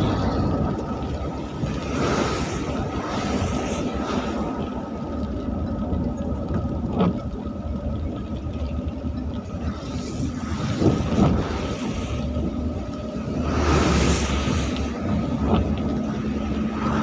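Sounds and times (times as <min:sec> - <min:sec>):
tyres hissing on wet road: 0:00.0 - 0:07.0, 0:09.4 - 0:17.0
low engine rumble: 0:00.0 - 0:17.0.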